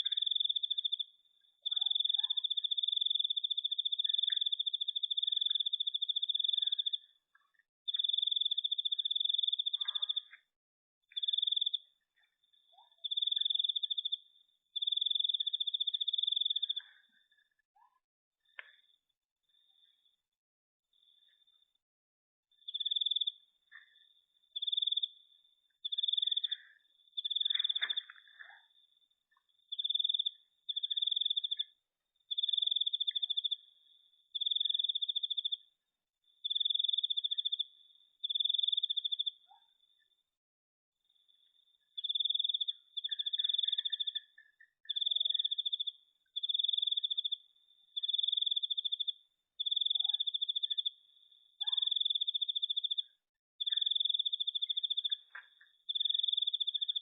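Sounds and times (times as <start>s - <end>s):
cricket chirping: 0.0s - 7.2s, 7.9s - 10.5s, 11.1s - 17.6s, 22.5s - 40.4s, 41.0s - 57.0s.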